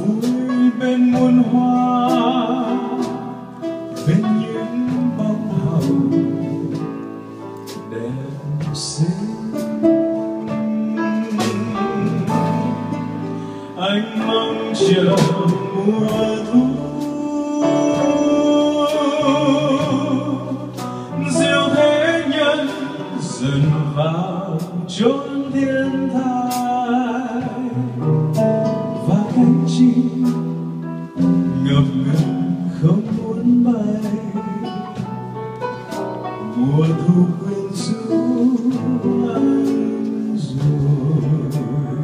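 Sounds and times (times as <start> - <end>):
man singing into microphone: 0.0 - 7.0, 7.8 - 35.3, 36.4 - 42.0
drum kit with cymbals: 0.0 - 42.0
guitar: 0.0 - 42.0.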